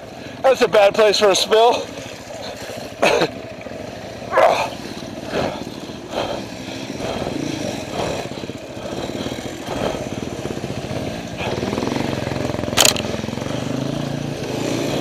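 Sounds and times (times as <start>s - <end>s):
off-road motorcycle engine: 0.0s - 15.0s.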